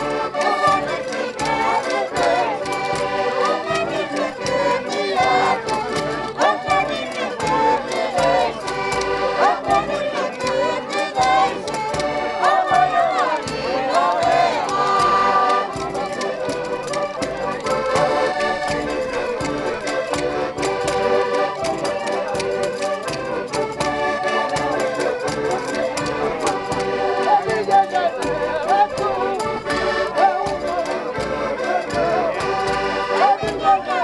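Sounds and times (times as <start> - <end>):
accordion music: 0.0 - 34.0.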